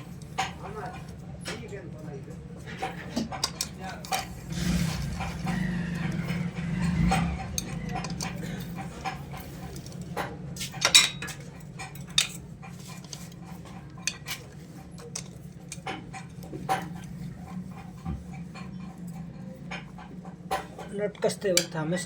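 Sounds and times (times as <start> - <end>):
spanner clinking on nuts: 2.8 - 22.0.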